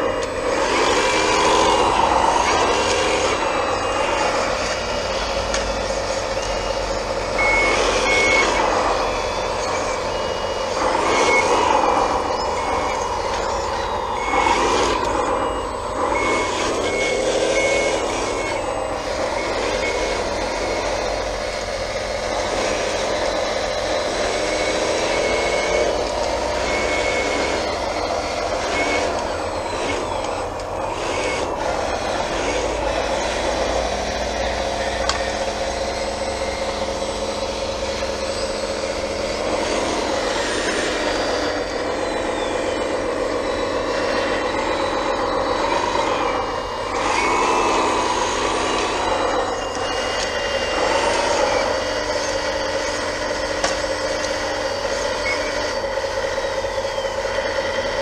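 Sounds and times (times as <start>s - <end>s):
reversing beeper: 0.0s - 58.0s
toy bulldozer motors whining: 0.0s - 58.0s.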